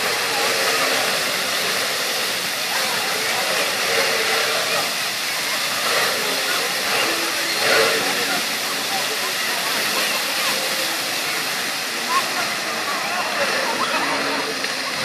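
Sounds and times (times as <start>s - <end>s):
water fountain splashing: 0.0s - 15.0s.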